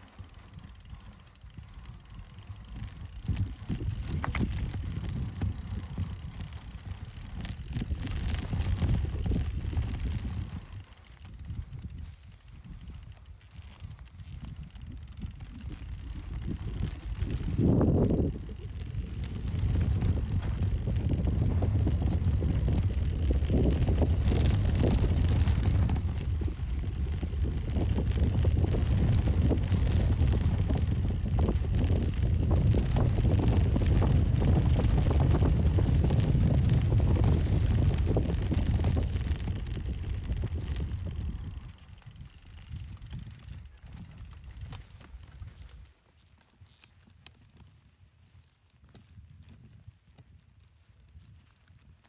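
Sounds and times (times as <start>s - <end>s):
bike rattles and clicks: 0.0s - 52.0s
bike tyres rumbling on trail: 0.0s - 52.0s.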